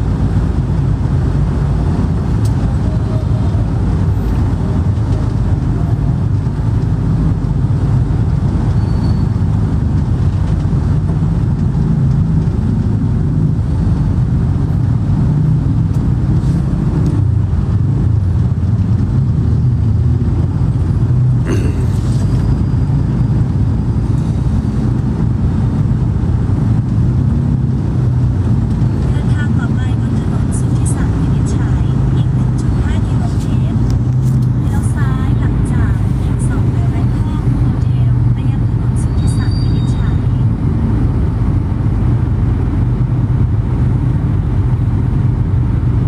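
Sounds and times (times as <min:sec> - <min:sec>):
car interior rumble: 0:00.0 - 0:46.0.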